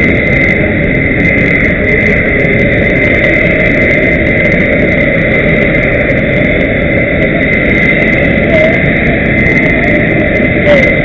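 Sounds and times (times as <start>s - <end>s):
aircraft engines rumbling: 0.0s - 11.0s
high engine whine: 0.0s - 11.0s.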